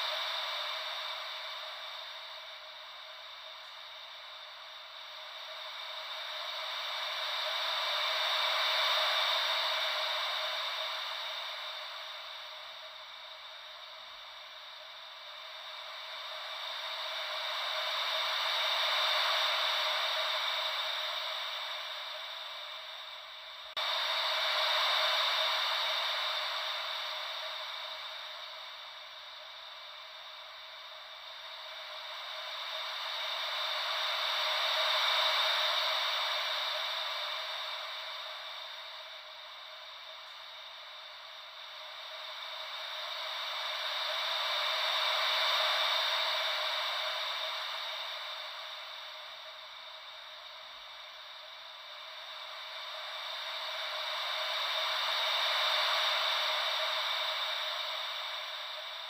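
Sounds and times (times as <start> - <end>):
ocean wave white noise: 0.0 - 59.0.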